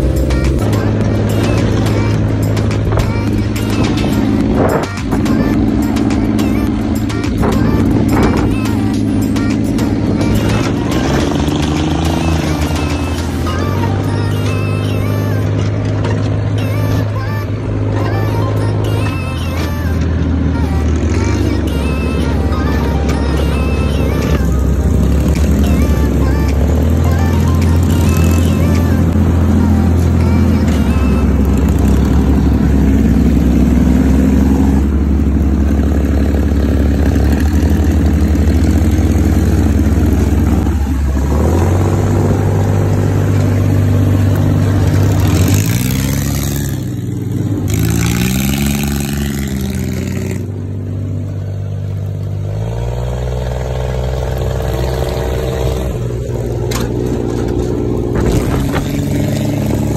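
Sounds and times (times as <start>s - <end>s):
dune buggy engine running: 0.0s - 59.9s.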